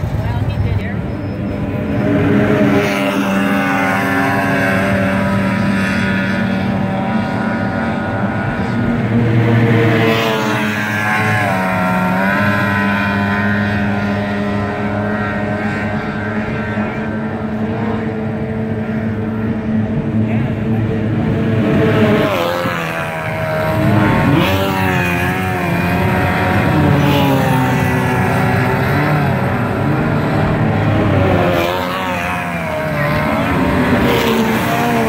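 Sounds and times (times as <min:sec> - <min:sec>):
racing outboard motors: 0:00.0 - 0:35.0.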